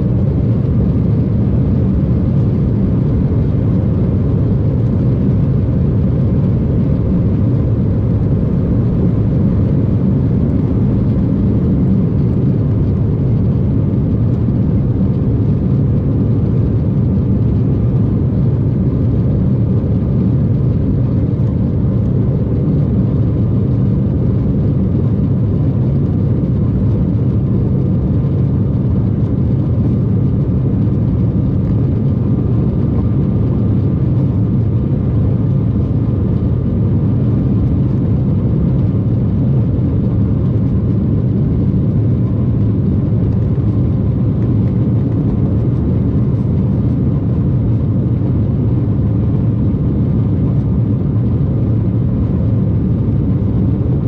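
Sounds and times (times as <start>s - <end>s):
jet cabin engine roar: 0.0s - 54.0s.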